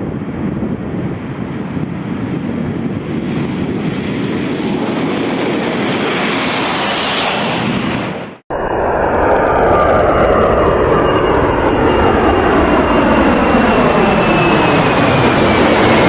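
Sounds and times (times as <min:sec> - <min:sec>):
aeroplane passing roar: 0:00.0 - 0:16.0.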